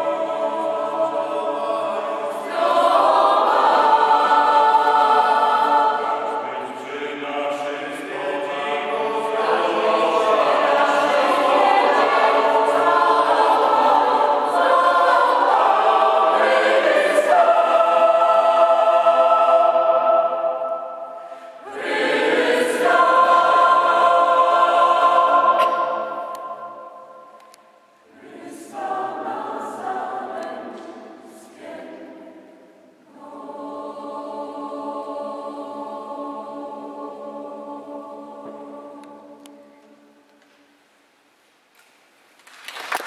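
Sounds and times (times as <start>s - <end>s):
mixed choir singing: 0.0s - 40.2s.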